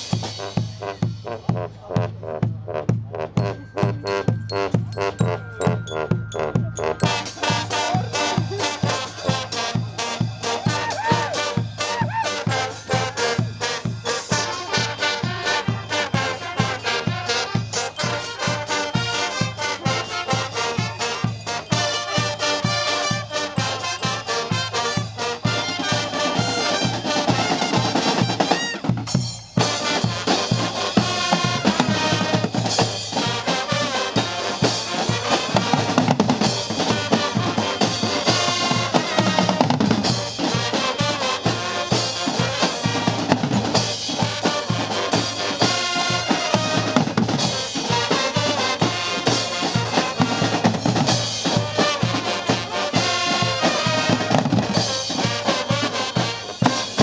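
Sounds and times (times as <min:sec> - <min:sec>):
brass band playing loudly: 0:00.0 - 0:57.0
drums and cymbals: 0:00.0 - 0:57.0.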